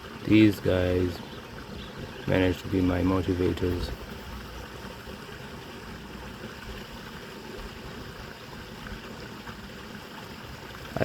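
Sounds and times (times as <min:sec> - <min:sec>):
shallow stream flowing: 0:00.0 - 0:11.0.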